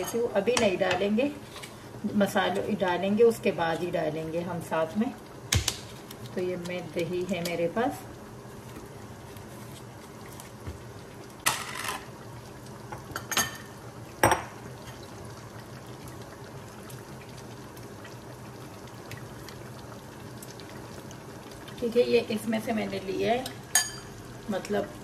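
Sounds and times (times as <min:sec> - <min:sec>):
pot simmering with bubbling hiss: 0:00.0 - 0:25.0.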